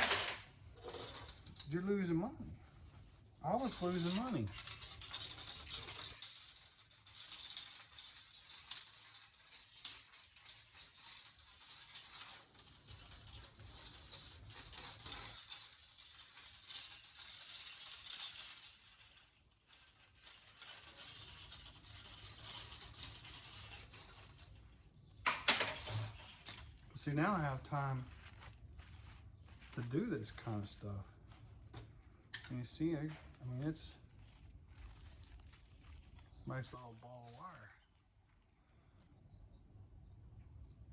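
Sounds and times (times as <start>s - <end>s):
copper wire scratching and rattling: 0.0s - 38.5s.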